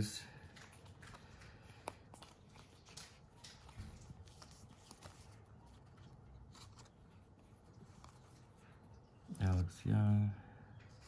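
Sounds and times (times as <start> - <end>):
cards being flipped by hand: 0.4 - 9.7.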